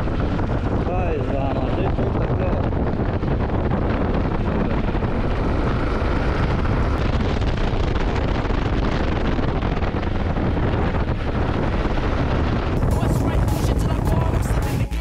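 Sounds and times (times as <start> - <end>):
wind buffeting microphone: 0.0 - 14.6
road noise: 0.0 - 15.0.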